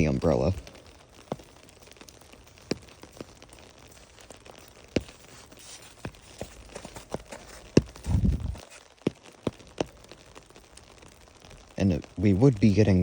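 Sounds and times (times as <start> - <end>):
faint hiss of rain: 0.0 - 13.0
raindrops tapping on an umbrella: 0.0 - 13.0.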